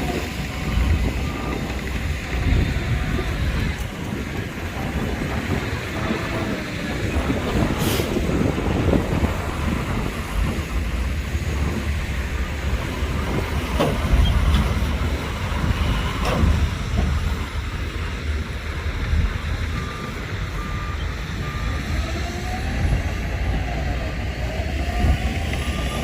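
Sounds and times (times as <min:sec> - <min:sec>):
diesel machinery rumbling: 0:00.0 - 0:26.0.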